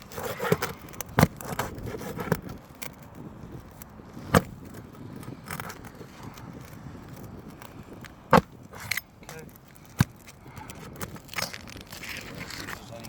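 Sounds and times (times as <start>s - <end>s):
metal tool scraping under shingles: 0.0s - 13.0s
small clicks and crackles: 0.0s - 13.0s.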